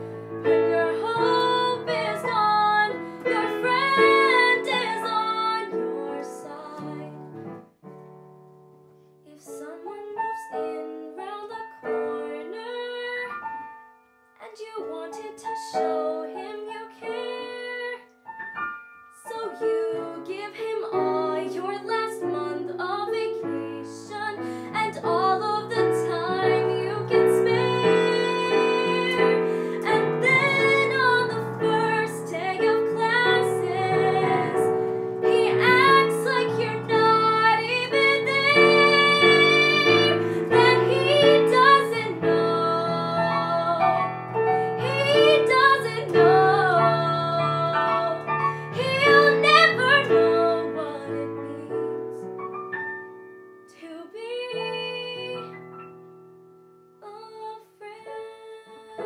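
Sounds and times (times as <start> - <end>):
girl singing a ballad: 0.0 - 7.4, 9.3 - 13.7, 14.4 - 18.2, 19.2 - 52.4, 53.6 - 55.7, 57.0 - 59.0
piano accompaniment: 0.0 - 59.0.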